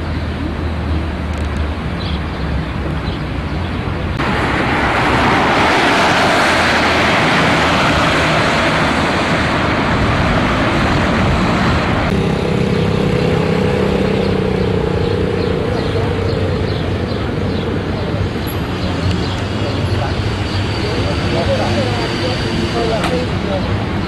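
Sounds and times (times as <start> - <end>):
outdoor rushing noise: 0.0 - 24.0.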